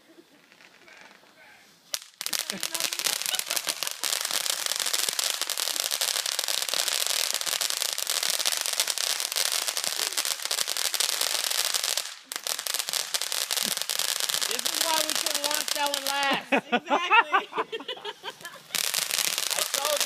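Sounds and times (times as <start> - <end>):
firework fountain crackling: 0.0 - 20.0.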